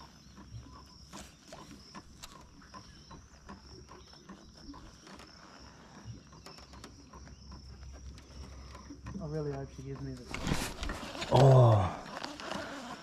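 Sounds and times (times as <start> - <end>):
crickets or cicadas droning: 0.0 - 13.0.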